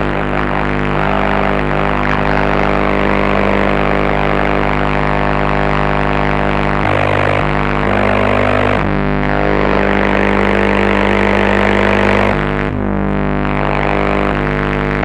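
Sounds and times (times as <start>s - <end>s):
buzzing electronic drone: 0.0s - 15.0s.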